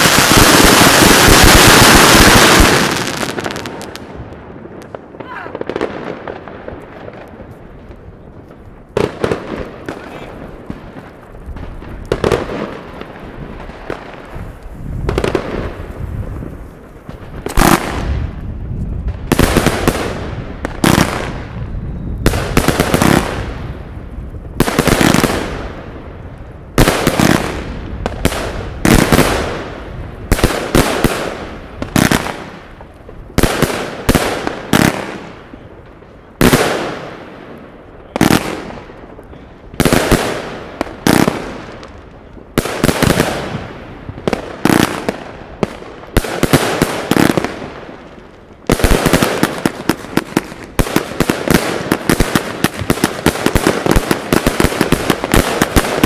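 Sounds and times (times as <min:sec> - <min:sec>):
fireworks banging with hiss: 0:00.0 - 0:26.1, 0:26.7 - 0:56.0.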